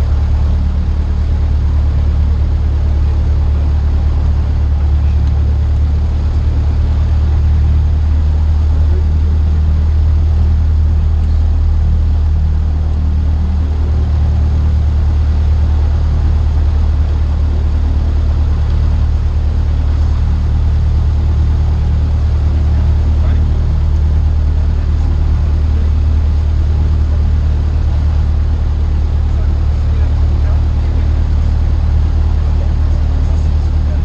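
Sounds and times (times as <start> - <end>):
aircraft engine and propeller drone: 0.0 - 34.0.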